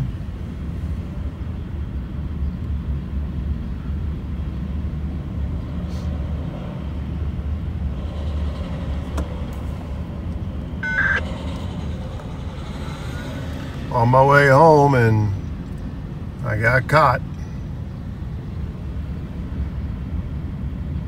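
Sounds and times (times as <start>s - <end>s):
car idling and train rumbling: 0.0s - 21.0s.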